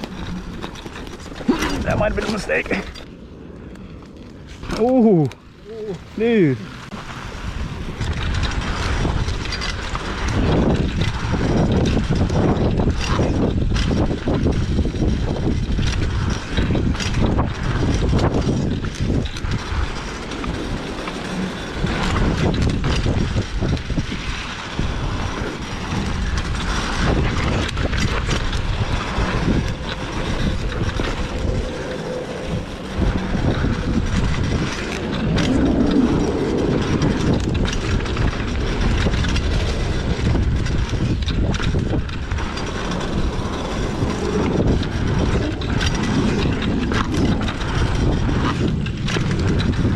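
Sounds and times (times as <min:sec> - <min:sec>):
dirt bike rumbling: 0:00.0 - 0:49.9.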